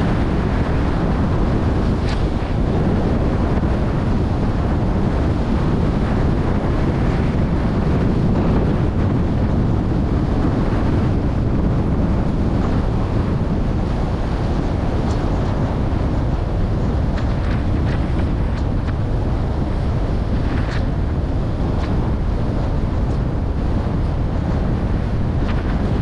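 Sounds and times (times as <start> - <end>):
car road noise: 0.0 - 26.0
wind rumble on microphone: 0.0 - 26.0.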